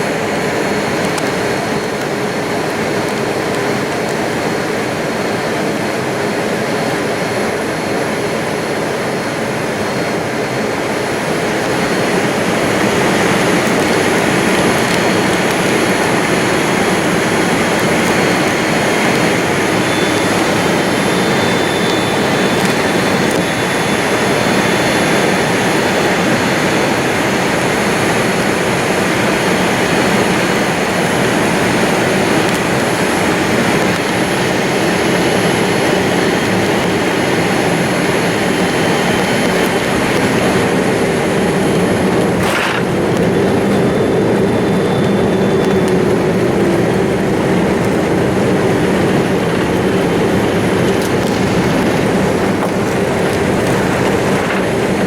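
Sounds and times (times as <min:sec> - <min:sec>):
jet engine cabin noise: 0:00.0 - 0:55.0.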